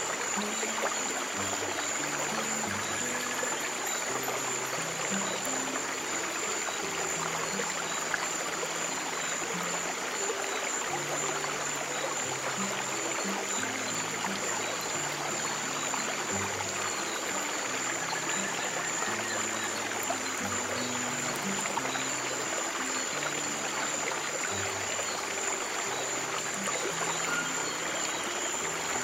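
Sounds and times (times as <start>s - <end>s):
stream water flowing: 0.0s - 29.0s.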